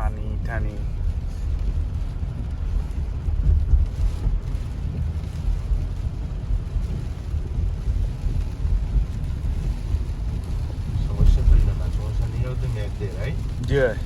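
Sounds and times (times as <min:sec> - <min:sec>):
car road rumble: 0:00.0 - 0:14.0
rain and spray hissing: 0:00.0 - 0:14.0.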